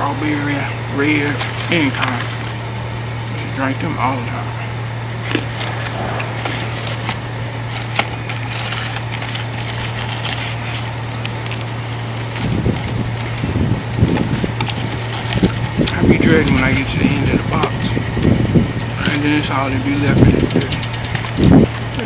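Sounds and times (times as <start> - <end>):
paper and fried food crackling: 0.0 - 2.8, 5.2 - 22.0
steady low hum: 0.0 - 22.0.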